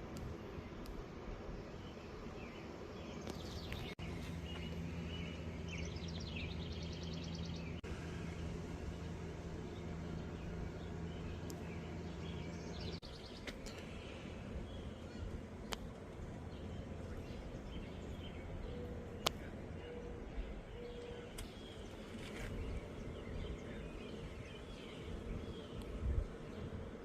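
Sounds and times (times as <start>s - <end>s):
steady low hum: 0.0s - 27.0s
songbirds trilling: 0.1s - 27.0s.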